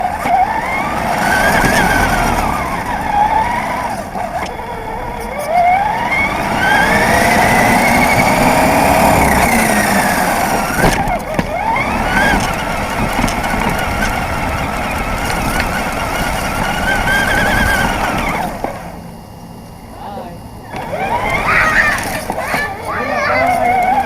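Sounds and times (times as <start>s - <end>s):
electric toy car motor whining: 0.0s - 19.1s, 20.7s - 24.0s.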